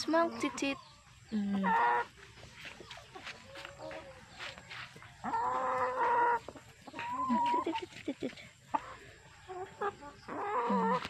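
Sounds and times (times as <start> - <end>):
chickens clucking and calling: 0.0 - 11.0.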